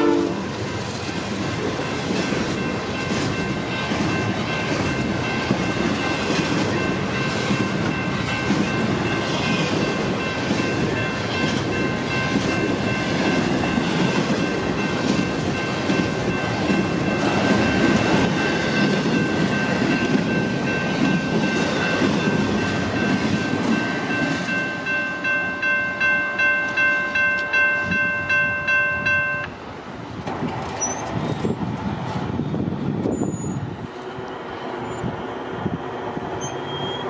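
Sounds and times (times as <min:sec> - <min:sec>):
crossing warning bell ringing: 0:00.0 - 0:29.7
train wheels rumbling on rails: 0:00.0 - 0:37.0.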